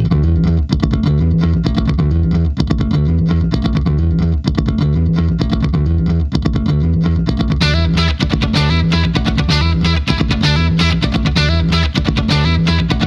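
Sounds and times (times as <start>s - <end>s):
bass guitar: 0.0s - 13.0s
electric guitar: 0.0s - 13.0s
steady drum beat: 0.0s - 13.0s.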